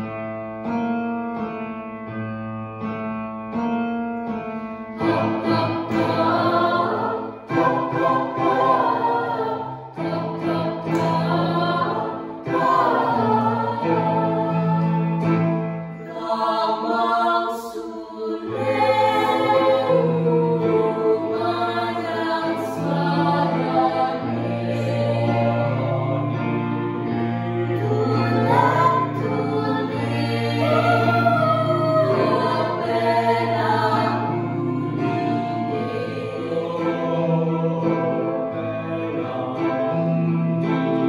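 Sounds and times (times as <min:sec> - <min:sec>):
choir singing in harmony: 0:04.4 - 0:41.0.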